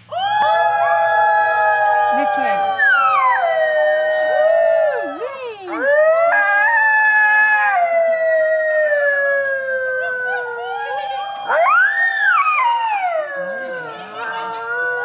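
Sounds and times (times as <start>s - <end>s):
coyotes howling in chorus: 0.0s - 15.0s.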